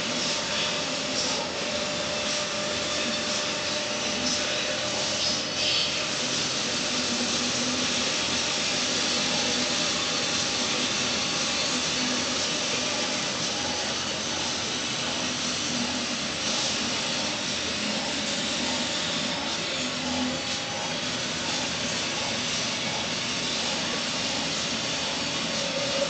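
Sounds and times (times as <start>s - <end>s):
faint motor hum: 0.0s - 26.0s
printer fans hissing: 0.0s - 26.0s.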